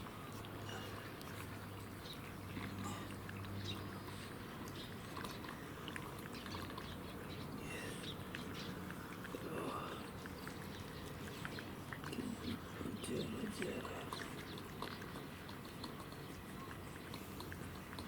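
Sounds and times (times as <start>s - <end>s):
cats eating: 0.0s - 18.0s
low steady hum: 0.0s - 18.0s.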